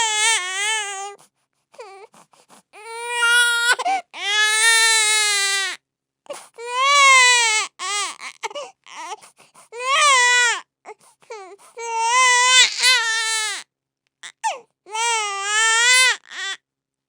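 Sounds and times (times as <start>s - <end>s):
baby crying: 0.0s - 1.2s, 1.8s - 2.2s, 2.8s - 13.6s, 14.2s - 16.6s.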